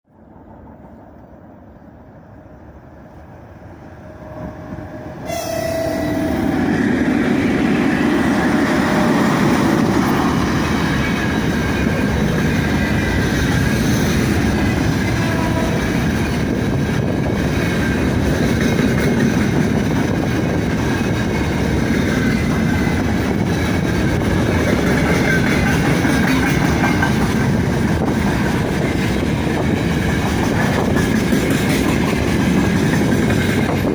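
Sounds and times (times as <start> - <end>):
freight train passing: 0.1 - 33.9
wheels clacking on rails: 4.7 - 33.9.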